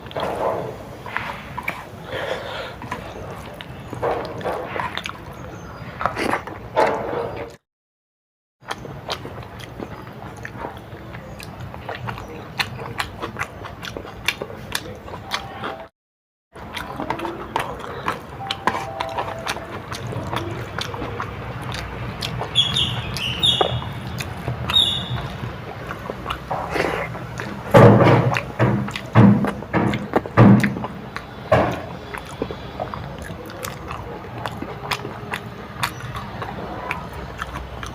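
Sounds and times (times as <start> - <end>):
chewing and mouth clicks: 2.7 - 7.6, 8.7 - 15.9, 16.6 - 37.9.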